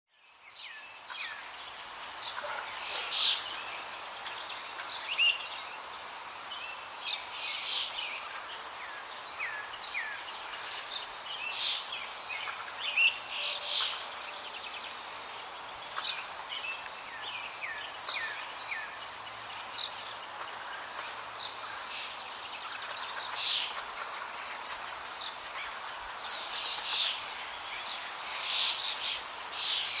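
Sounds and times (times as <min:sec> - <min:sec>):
outdoor ambience hiss: 0:00.1 - 0:30.0
songbirds chirping: 0:00.1 - 0:30.0.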